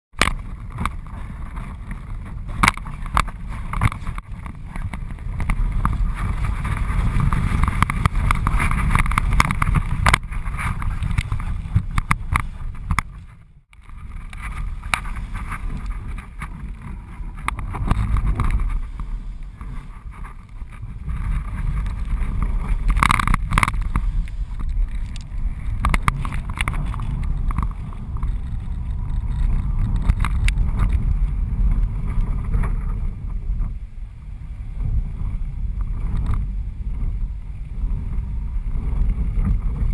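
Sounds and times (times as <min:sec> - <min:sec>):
wind buffeting camera: 0:00.1 - 0:39.9.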